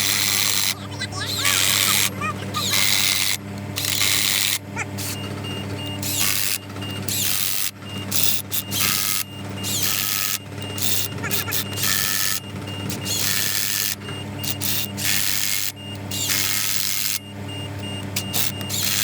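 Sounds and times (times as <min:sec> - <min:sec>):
power tool bursts: 0:00.0 - 0:05.4, 0:06.0 - 0:17.2, 0:18.2 - 0:19.0.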